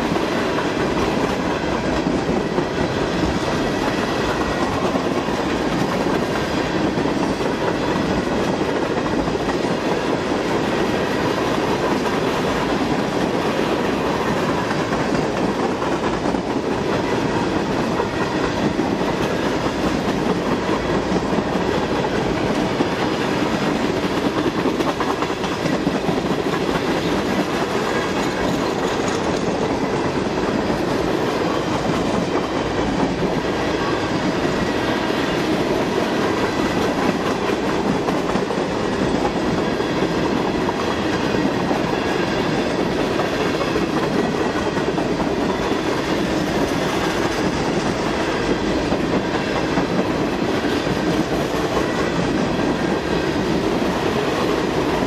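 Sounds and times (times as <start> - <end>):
steel wheels running on rails: 0.0 - 55.0
train wheel clatter: 0.0 - 55.0.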